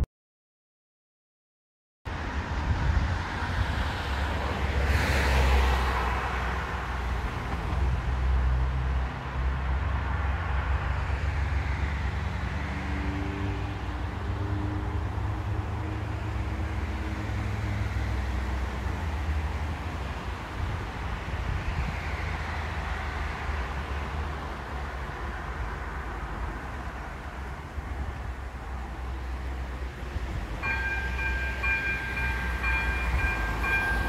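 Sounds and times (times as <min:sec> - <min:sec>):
passing vehicle hiss: 0:02.1 - 0:34.0
road traffic rumble: 0:02.1 - 0:34.0.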